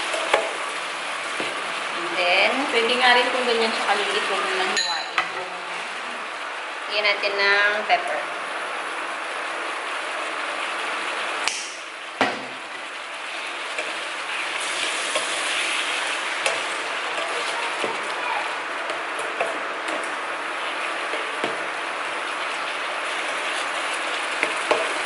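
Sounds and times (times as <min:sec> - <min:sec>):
squid sizzling in a pan: 0:00.0 - 0:04.8, 0:08.4 - 0:25.0.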